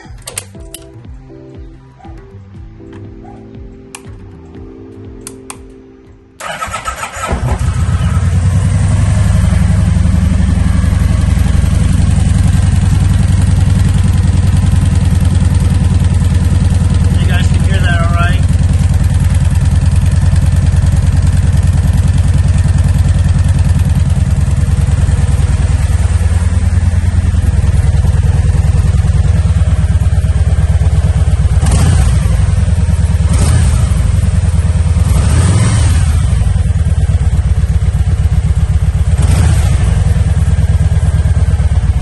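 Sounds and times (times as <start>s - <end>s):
motorcycle engine idling: 6.4s - 42.0s.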